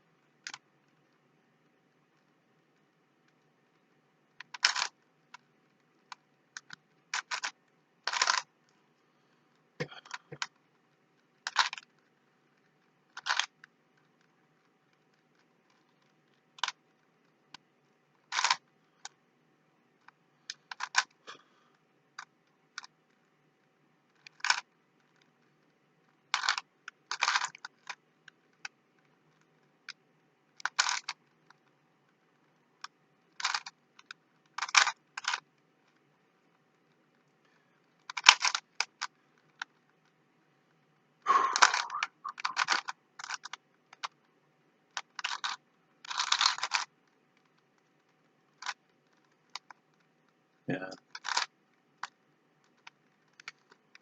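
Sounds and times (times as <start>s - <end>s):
puzzle cube plastic clicks: 0.2s - 8.8s, 9.4s - 19.3s, 19.9s - 54.0s.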